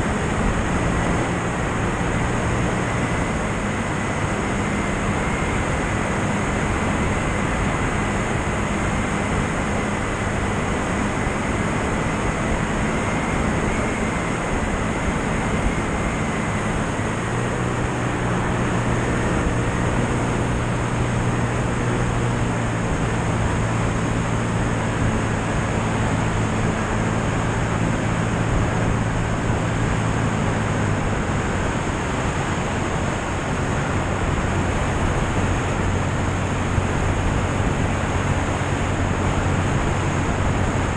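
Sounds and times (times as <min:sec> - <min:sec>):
airflow rush: 0:00.0 - 0:40.9
propeller engine drone: 0:00.0 - 0:40.9.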